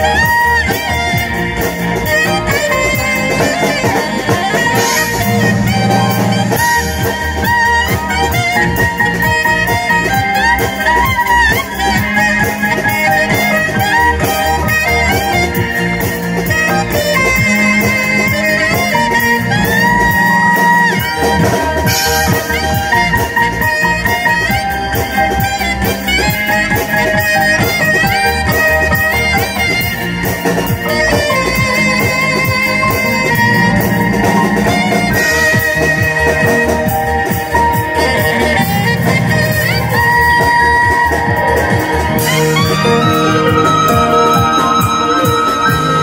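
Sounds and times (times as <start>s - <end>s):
alto saxophone melody: 0.0s - 46.0s
backing music with beat and bass: 0.0s - 46.0s.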